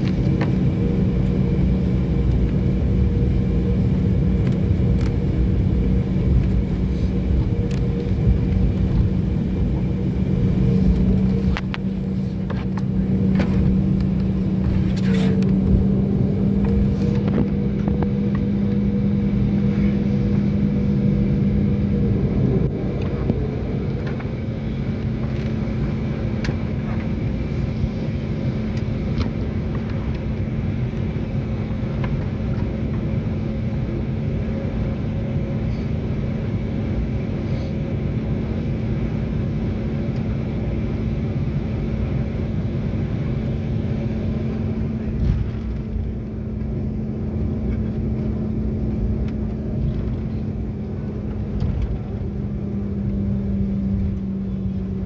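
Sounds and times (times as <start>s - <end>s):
airliner engines droning: 0.0s - 55.0s
rumble of wheels and airframe: 0.0s - 55.0s.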